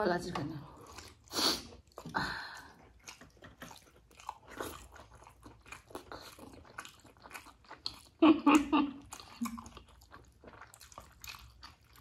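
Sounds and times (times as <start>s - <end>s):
chewing with wet mouth clicks: 0.8s - 12.0s.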